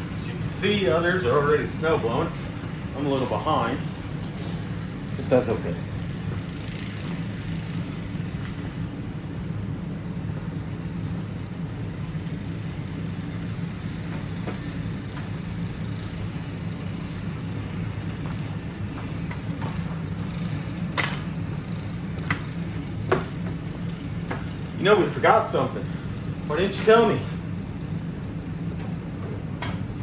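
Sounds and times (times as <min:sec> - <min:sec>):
distant snow blower engine: 0:00.0 - 0:30.0.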